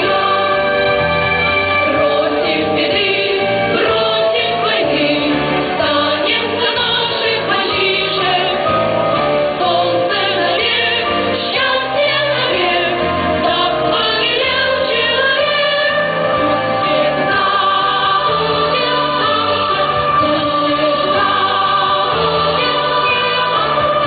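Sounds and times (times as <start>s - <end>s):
children's choir singing: 0.0s - 24.0s.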